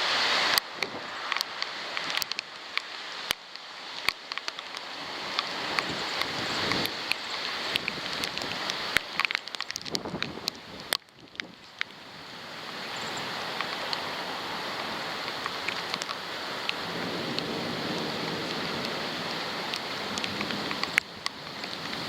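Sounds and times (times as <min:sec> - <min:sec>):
heavy rain pouring: 0:00.0 - 0:22.0
raindrops ticking on camera: 0:00.1 - 0:22.0.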